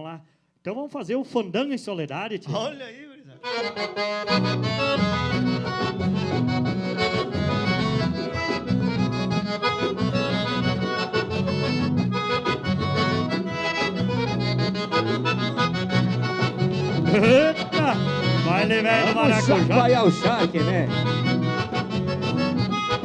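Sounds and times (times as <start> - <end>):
accordion-led dance music: 2.4 - 23.0.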